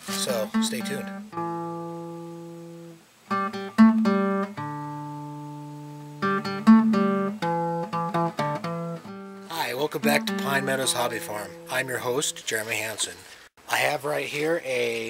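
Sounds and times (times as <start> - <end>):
acoustic guitar playing: 0.0 - 13.4.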